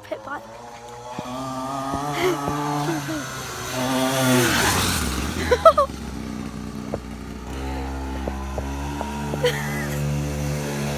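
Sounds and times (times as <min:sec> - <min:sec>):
dirt bike engine idling: 0:00.0 - 0:10.9.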